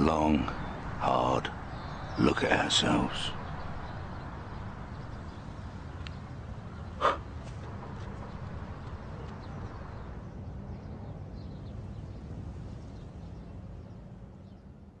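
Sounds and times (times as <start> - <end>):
faint bird chirps: 0.0 - 15.0
low wind rumble: 0.0 - 15.0.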